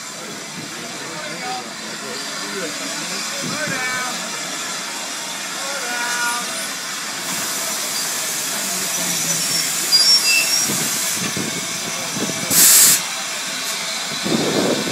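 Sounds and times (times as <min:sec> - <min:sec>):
steam hissing: 0:00.0 - 0:14.9
loud steam blast: 0:00.3 - 0:14.9.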